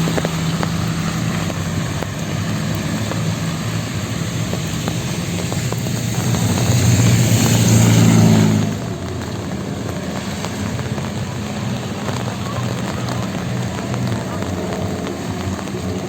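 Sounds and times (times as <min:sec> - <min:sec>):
rain hissing: 0:00.0 - 0:16.0
vehicle passing on wet street: 0:00.0 - 0:16.0.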